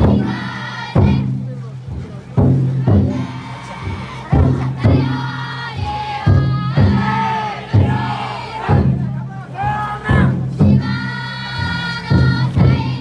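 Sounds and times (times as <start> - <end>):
crowd chanting and shouting: 0.0 - 13.0
large drum booming strokes: 0.0 - 13.0.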